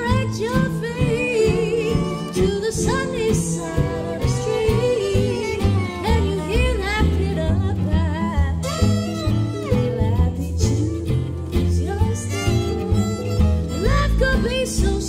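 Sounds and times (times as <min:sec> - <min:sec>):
acoustic guitar: 0:00.0 - 0:15.0
fiddle: 0:00.0 - 0:15.0
woman singing: 0:00.0 - 0:15.0.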